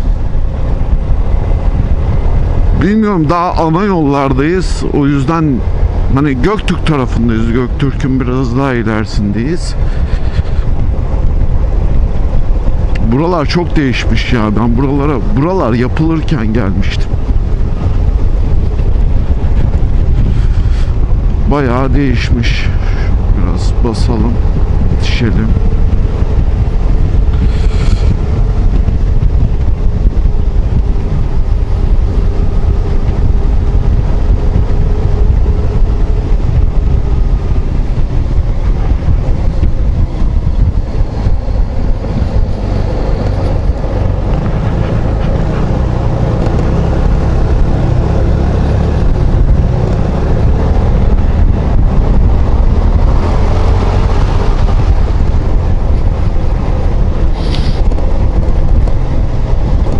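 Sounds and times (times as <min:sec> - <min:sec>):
wind rush on microphone: 0:00.0 - 0:59.9.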